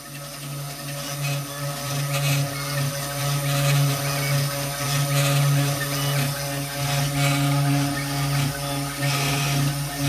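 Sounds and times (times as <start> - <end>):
engraver motors humming: 0.0 - 10.0.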